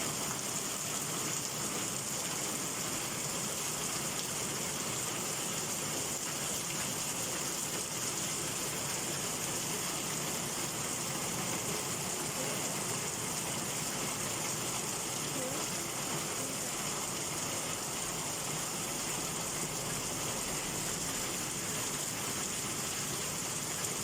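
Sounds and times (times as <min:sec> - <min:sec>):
gushing water: 0:00.0 - 0:24.0
heavy rain hissing: 0:00.0 - 0:24.0.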